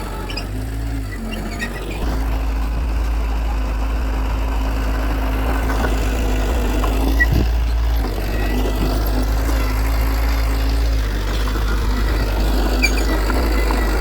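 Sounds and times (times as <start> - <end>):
diesel machinery running: 0.0 - 14.0.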